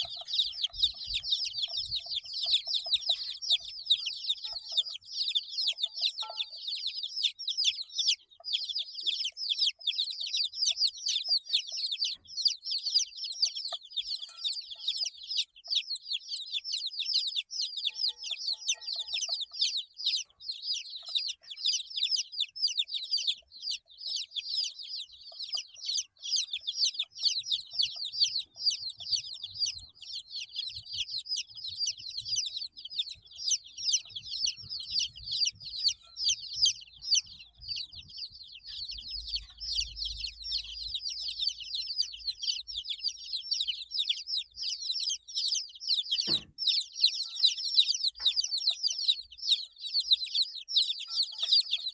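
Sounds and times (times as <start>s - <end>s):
baby chicks cheeping: 0.0s - 51.9s.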